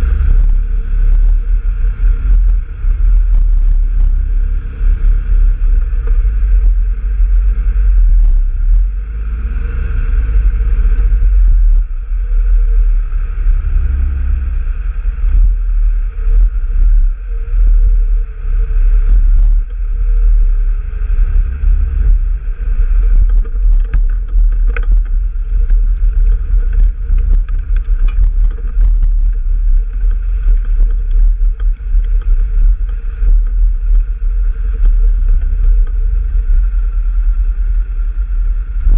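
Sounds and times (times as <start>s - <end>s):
vehicle engine low rumble: 0.0s - 38.9s.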